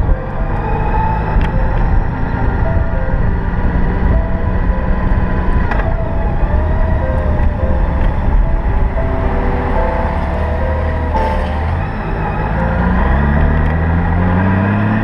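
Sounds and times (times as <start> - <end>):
faint shifting tones: 0.0 - 15.0
vehicle running rumble: 0.0 - 15.0.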